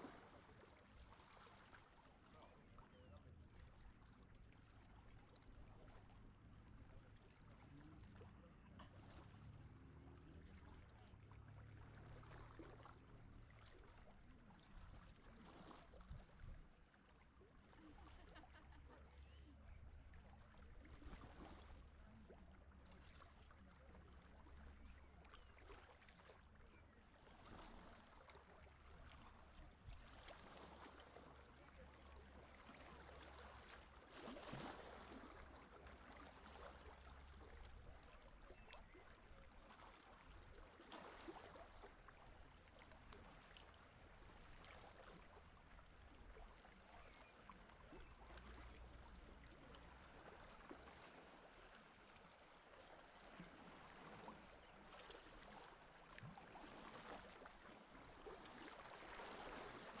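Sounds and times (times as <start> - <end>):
sea water lapping and gurgling: 0.0 - 60.0.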